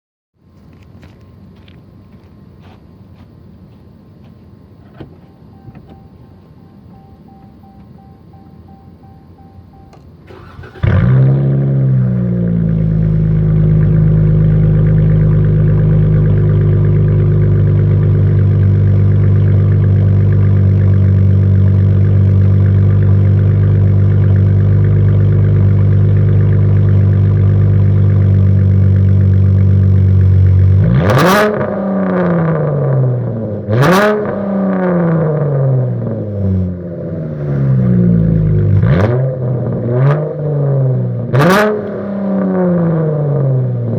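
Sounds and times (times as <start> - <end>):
car engine idling and revving: 0.7 - 43.9.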